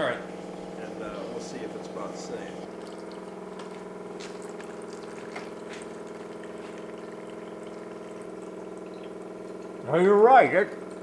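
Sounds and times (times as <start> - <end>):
pump humming: 0.0 - 11.0.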